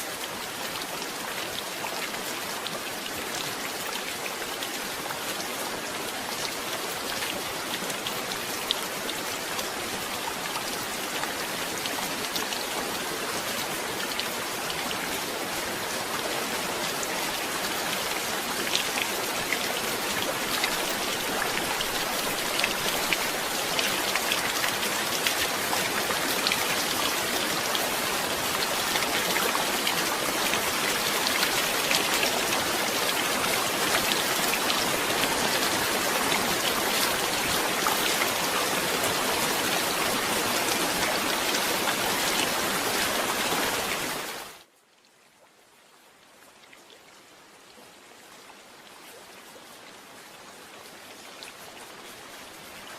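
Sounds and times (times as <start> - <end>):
heavy rain on a surface: 0.0 - 52.9.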